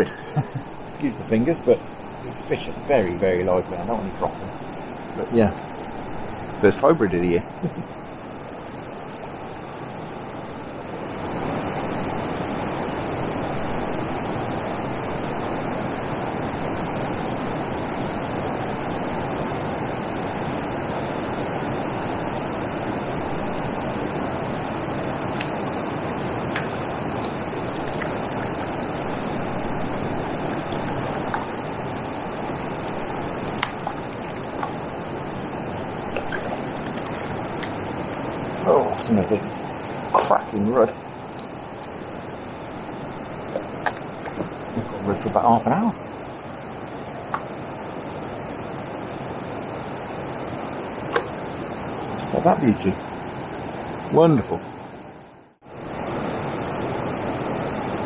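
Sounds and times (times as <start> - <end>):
water rushing over weir: 0.0 - 48.9.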